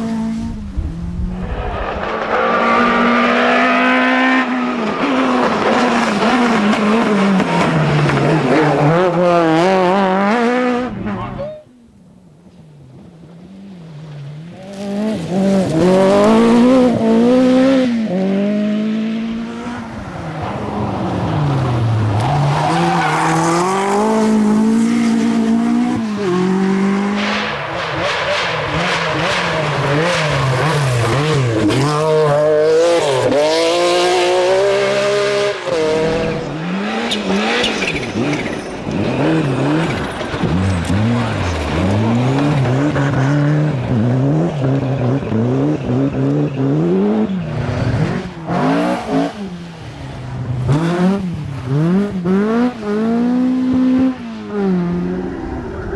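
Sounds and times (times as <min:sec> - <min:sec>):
rally car engine revving: 0:00.0 - 0:11.5, 0:12.9 - 0:55.9.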